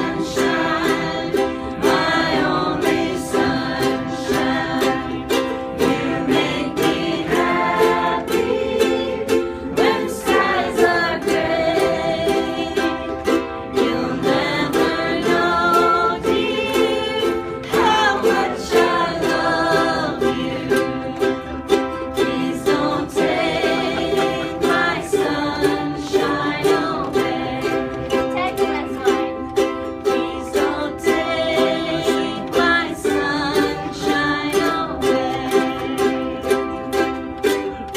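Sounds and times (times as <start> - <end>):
ukuleles strumming: 0.0 - 37.9
voices singing: 0.0 - 37.9.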